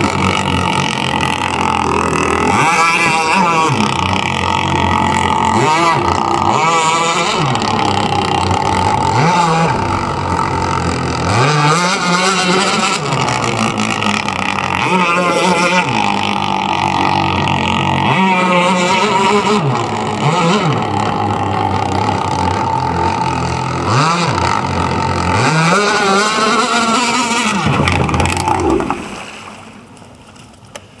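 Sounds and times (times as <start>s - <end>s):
two-stroke engine revving: 0.0s - 29.8s.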